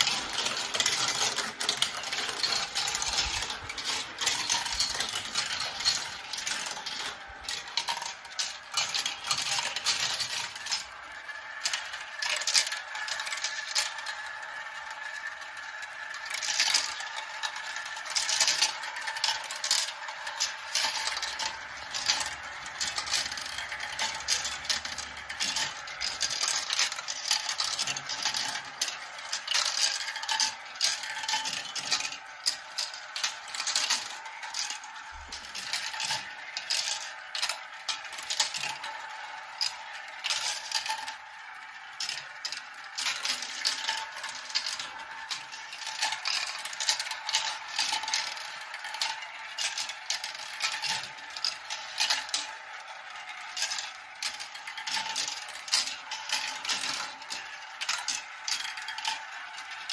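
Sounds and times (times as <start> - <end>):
marbles rattling down track: 0.0 - 59.9.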